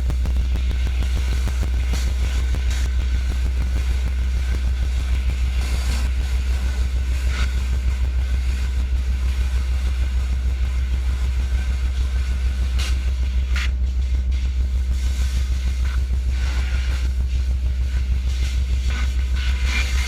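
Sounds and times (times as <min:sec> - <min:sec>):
pressure washer engine humming: 0:00.0 - 0:20.0
high-pressure water spray hissing: 0:00.1 - 0:20.0.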